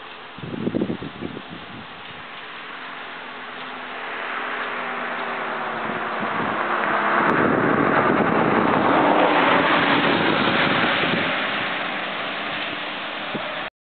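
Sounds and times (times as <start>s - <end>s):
motor vehicle passing: 2.1s - 13.7s.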